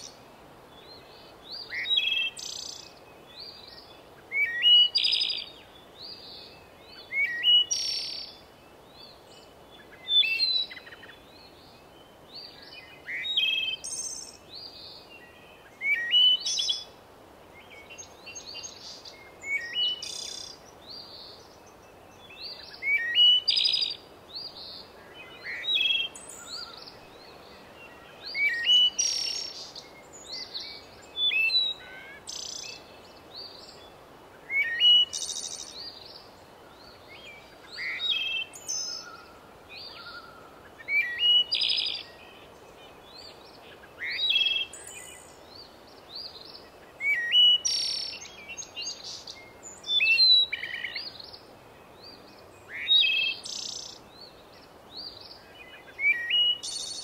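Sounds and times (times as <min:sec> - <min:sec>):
faint steady hiss: 0:00.0 - 0:57.0
songbird chirping: 0:00.0 - 0:57.0.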